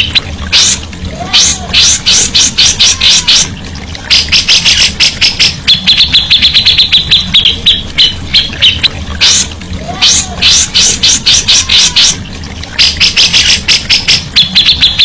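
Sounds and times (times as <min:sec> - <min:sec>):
songbird chirping and trilling: 0:00.0 - 0:15.0.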